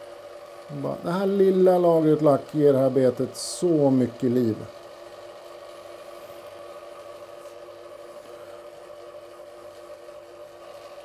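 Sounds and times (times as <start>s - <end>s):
small electric motor humming: 0.0s - 11.0s.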